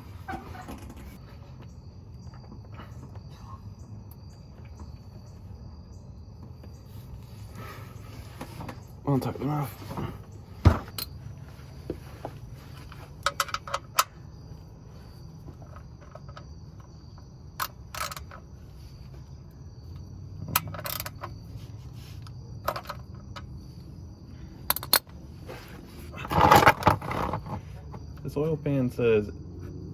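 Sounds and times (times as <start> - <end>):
high insect trill: 0.0 - 29.9
steady low hum: 0.0 - 29.9.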